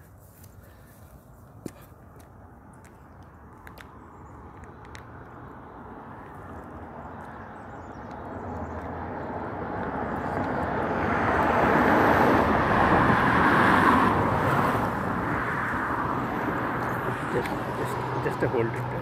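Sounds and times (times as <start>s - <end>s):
vehicle passing: 2.3s - 19.0s.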